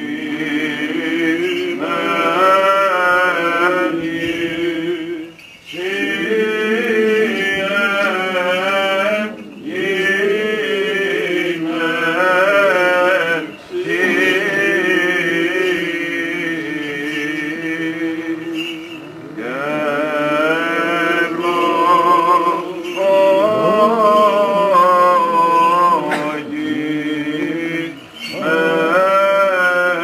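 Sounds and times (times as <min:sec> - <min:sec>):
male voices chanting: 0:00.0 - 0:30.0.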